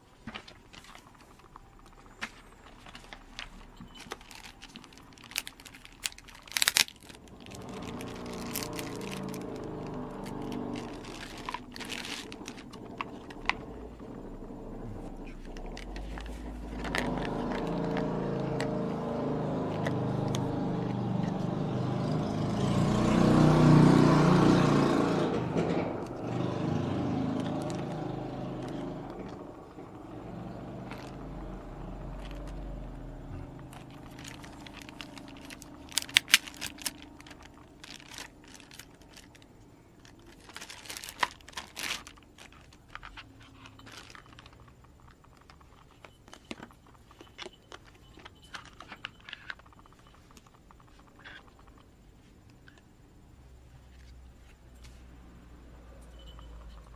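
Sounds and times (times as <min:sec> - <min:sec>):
plastic bags crinkling: 0:00.0 - 0:22.8, 0:26.2 - 0:51.8
engine-like hum: 0:00.0 - 0:56.9.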